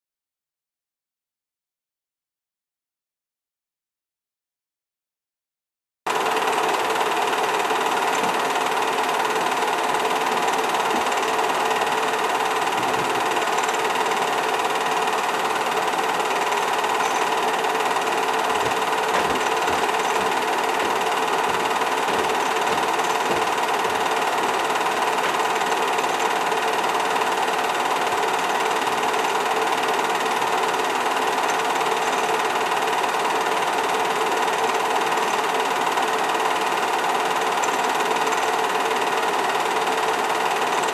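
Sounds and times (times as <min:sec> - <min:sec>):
film projector whirring: 0:06.1 - 0:40.9.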